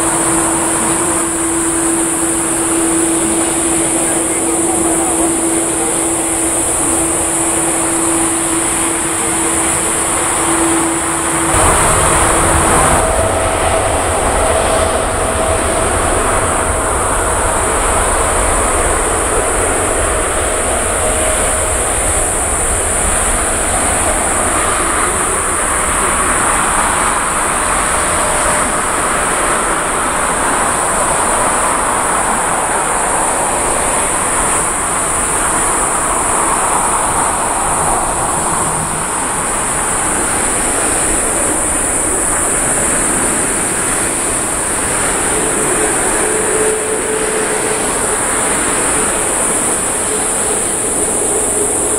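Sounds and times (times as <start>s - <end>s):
high-pitched hiss: 0.0s - 51.9s
jet engines rumbling: 0.0s - 51.9s.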